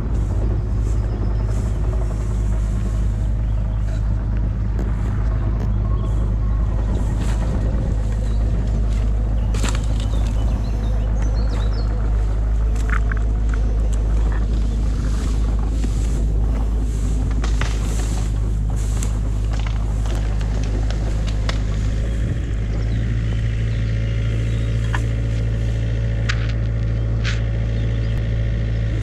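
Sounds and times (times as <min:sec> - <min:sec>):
footsteps through long grass: 0:00.0 - 0:28.8
steady low rumble: 0:00.0 - 0:29.0.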